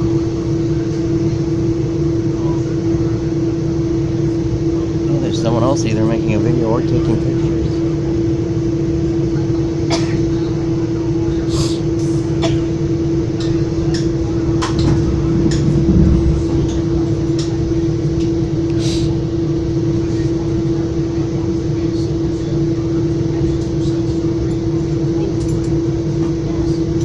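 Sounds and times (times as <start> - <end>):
train rumble and hum: 0.0 - 27.0.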